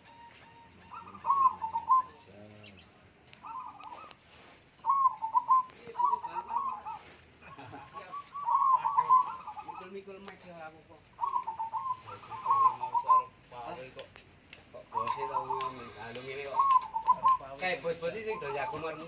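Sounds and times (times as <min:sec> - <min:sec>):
doves cooing: 0:00.0 - 0:14.1, 0:14.7 - 0:19.0.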